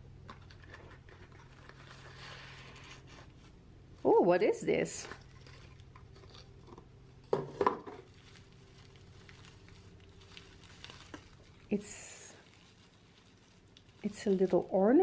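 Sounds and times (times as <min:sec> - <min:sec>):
bubble wrap crinkling: 0:00.0 - 0:15.0
hands rustling shredded paper: 0:00.5 - 0:07.3, 0:08.0 - 0:15.0.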